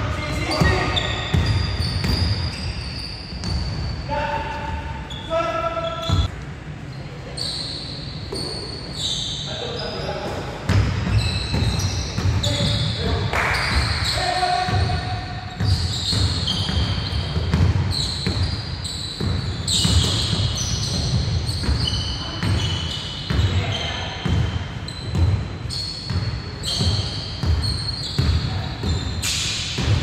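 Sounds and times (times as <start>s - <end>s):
sneakers squeaking: 0.0s - 30.0s.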